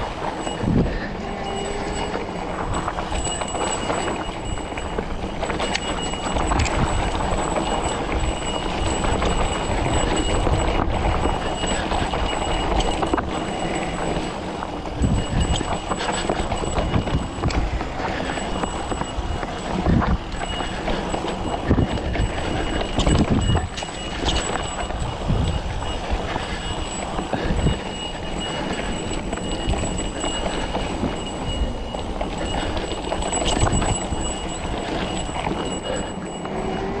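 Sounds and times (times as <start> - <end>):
bike rattling over rocks: 0.0 - 37.0.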